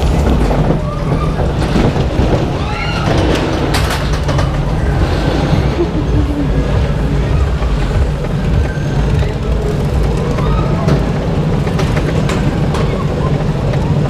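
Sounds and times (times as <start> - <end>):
lift chain rumble and rattle: 0.0 - 14.0.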